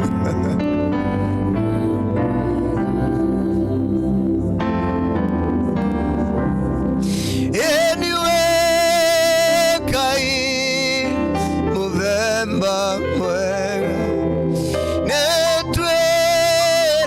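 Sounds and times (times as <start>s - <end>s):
person singing with vibrato: 0.0s - 5.0s, 7.0s - 17.0s
sustained keyboard chords: 0.0s - 17.0s.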